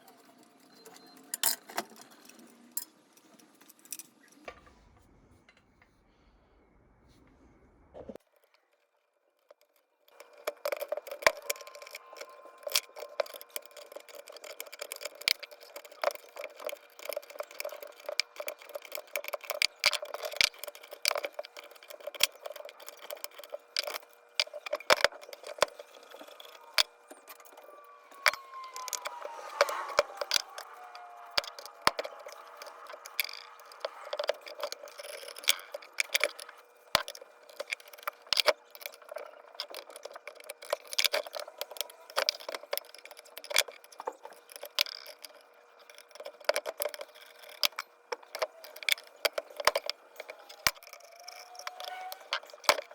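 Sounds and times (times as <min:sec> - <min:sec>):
metal scraping on metal squeaks: 0:00.0 - 0:02.6, 0:10.2 - 0:47.6, 0:48.2 - 0:52.9
metal tools clinking and rattling: 0:00.0 - 0:04.6, 0:10.1 - 0:52.9.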